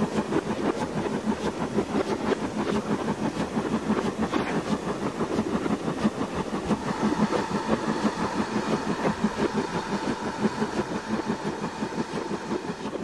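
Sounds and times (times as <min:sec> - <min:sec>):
steam train running: 0:00.0 - 0:13.0.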